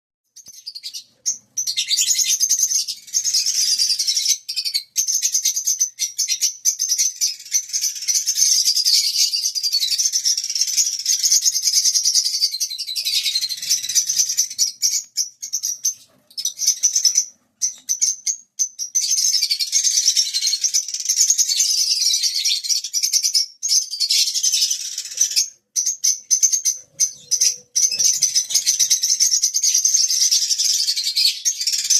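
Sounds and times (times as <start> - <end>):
lovebirds twittering: 0.4 - 31.9.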